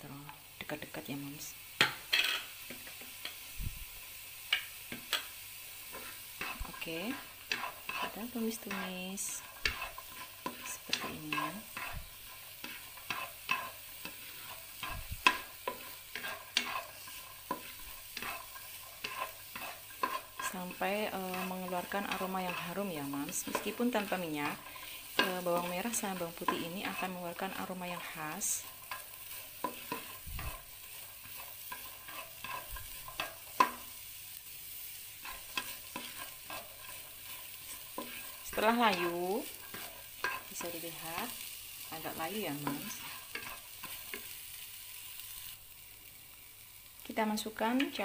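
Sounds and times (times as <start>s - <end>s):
spatula scraping a frying pan: 1.8s - 3.5s, 4.5s - 45.5s.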